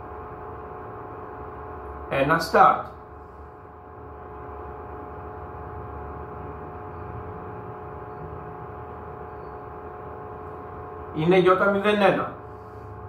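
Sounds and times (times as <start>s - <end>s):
machine hum with held tones: 0.0s - 13.0s.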